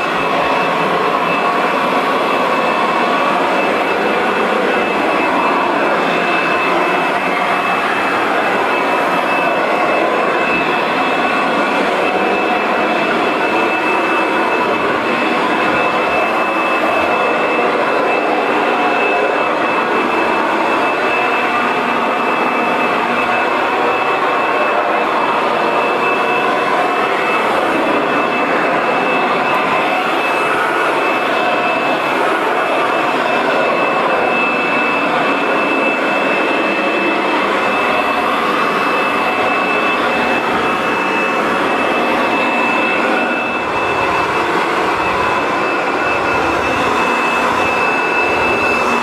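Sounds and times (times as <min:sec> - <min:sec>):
high whine: 0:00.0 - 0:49.0
vacuum cleaner motor running: 0:00.0 - 0:49.0.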